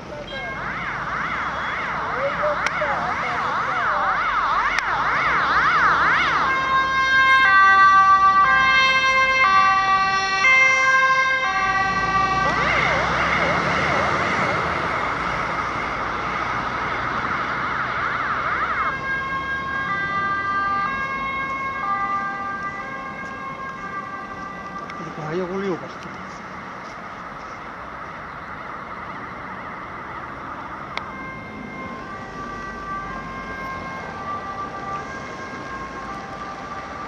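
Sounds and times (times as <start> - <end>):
ambulance siren: 0.0 - 37.0.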